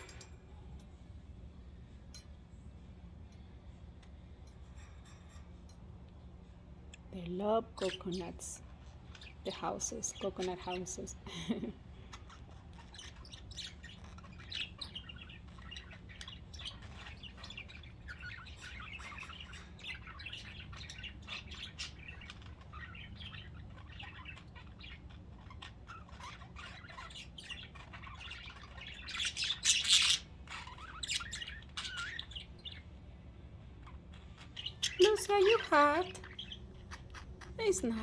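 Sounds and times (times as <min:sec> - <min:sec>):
budgerigars chirping and chattering: 0:00.0 - 0:00.3, 0:07.1 - 0:38.0.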